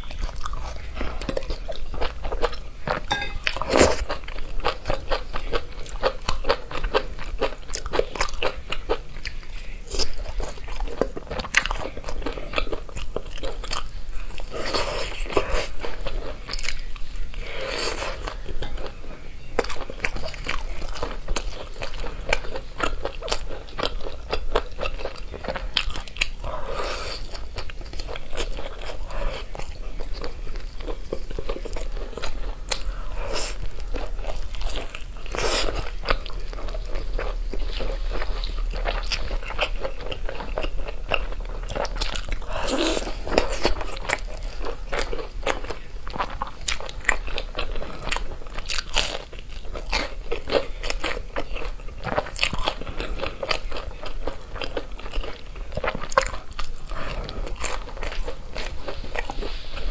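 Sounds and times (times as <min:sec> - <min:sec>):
crunchy chewing and biting: 0:00.0 - 0:59.9.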